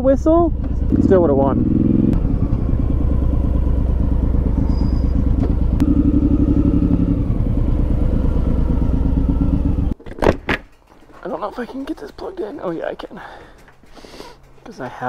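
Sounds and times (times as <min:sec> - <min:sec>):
motorcycle engine running: 0:00.0 - 0:10.0, 0:10.6 - 0:15.0.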